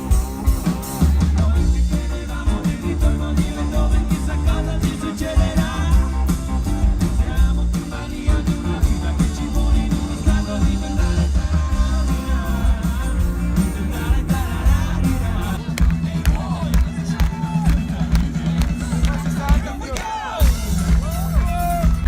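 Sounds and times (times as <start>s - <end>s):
heavy pulsing bass beat: 0.0s - 22.0s
rock music with singer: 0.0s - 22.0s.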